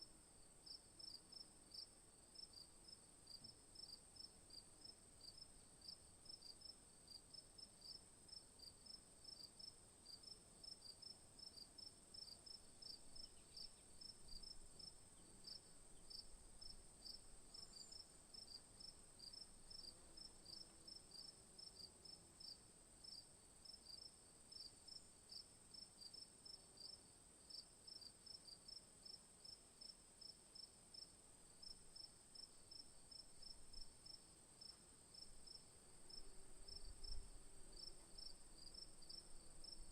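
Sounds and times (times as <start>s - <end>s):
crickets chirping: 0.4s - 39.9s.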